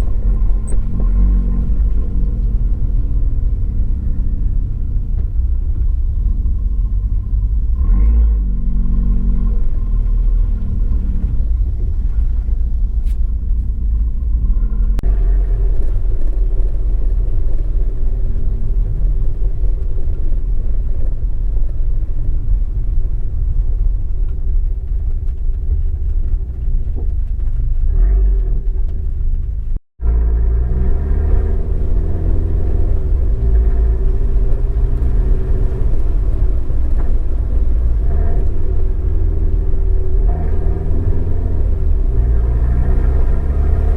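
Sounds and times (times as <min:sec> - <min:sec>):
car engine revving: 0:00.0 - 0:43.9
road and wind noise: 0:00.0 - 0:43.9.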